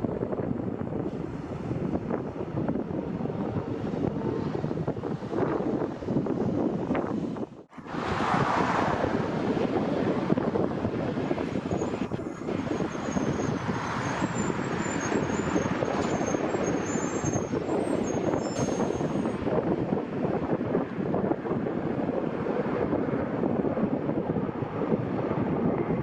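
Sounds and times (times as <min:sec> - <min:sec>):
jet engines rumbling: 0:00.0 - 0:26.0
wind buffeting microphone: 0:00.0 - 0:26.0.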